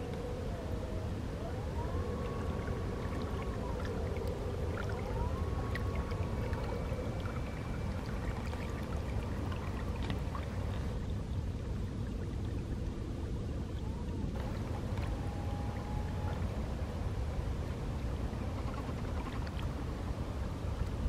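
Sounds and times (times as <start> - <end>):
water rushing at hull: 0.0 - 21.0.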